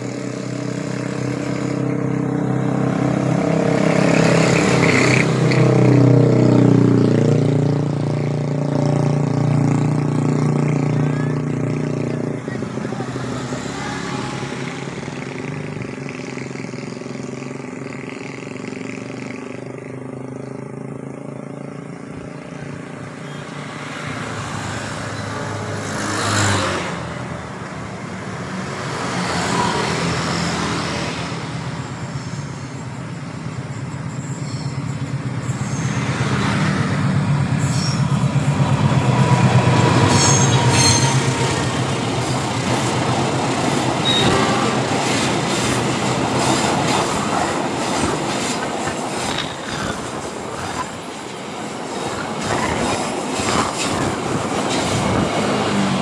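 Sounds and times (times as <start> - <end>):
diesel train passing: 0.0 - 19.8, 20.9 - 56.0
motorbikes passing: 0.0 - 56.0.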